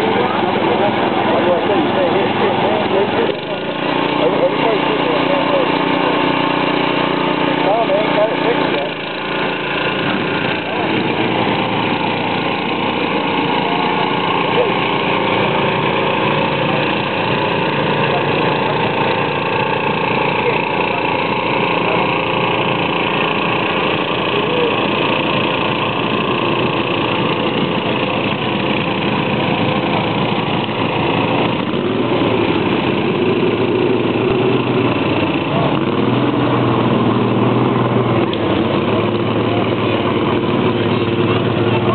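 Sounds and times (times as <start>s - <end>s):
voices: 0.0s - 36.6s, 38.0s - 41.9s
small tractor engines running: 0.0s - 41.9s.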